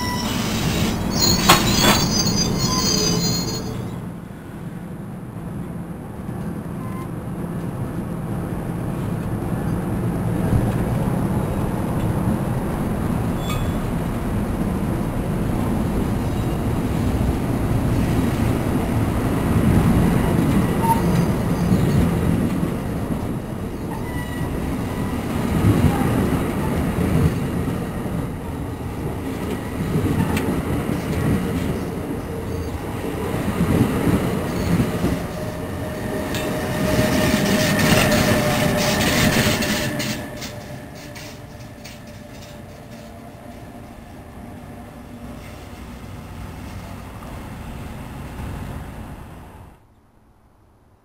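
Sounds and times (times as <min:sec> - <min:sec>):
train wheels rumbling on rail: 0:00.0 - 0:49.8.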